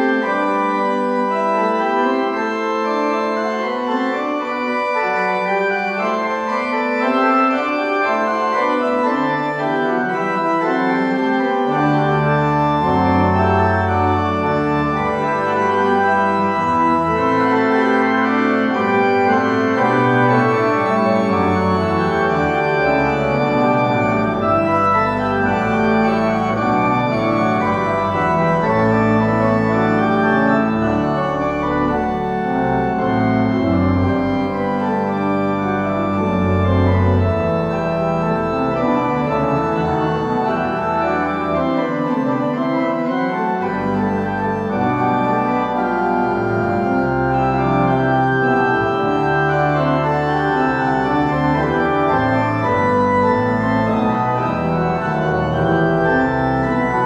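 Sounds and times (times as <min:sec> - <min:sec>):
pipe organ playing fugue: 0:00.0 - 0:57.0.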